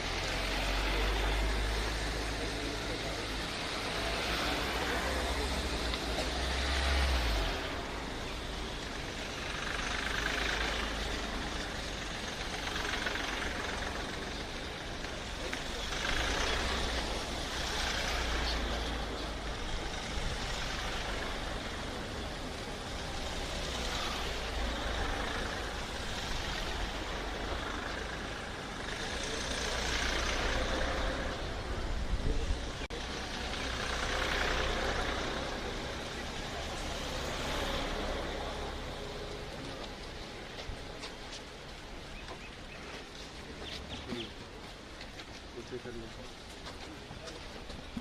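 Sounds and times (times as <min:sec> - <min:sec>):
vehicles driving past: 0:00.0 - 0:48.0.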